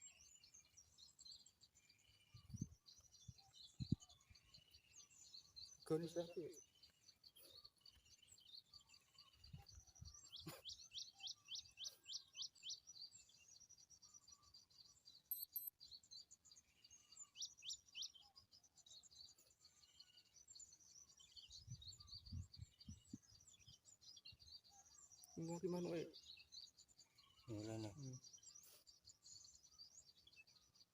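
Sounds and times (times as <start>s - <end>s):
small birds chirping faintly: 0.0s - 30.9s.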